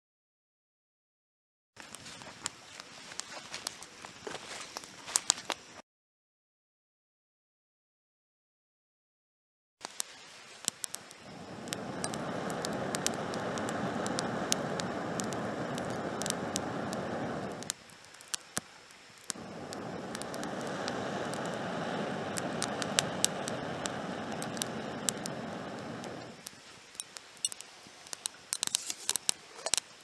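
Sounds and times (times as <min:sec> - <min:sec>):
burning twigs crackling: 0:01.8 - 0:05.8, 0:09.8 - 0:30.0.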